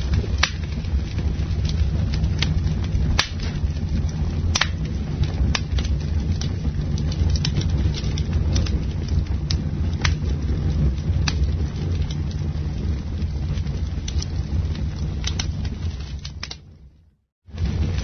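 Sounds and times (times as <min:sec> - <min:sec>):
burning wood popping: 0:00.0 - 0:18.0
campfire crackling: 0:00.0 - 0:18.0
low rumble: 0:00.0 - 0:18.0.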